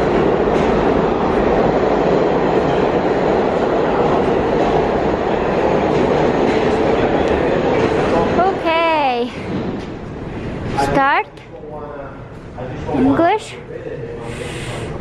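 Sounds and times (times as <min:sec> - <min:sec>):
subway train running through station: 0:00.0 - 0:15.0.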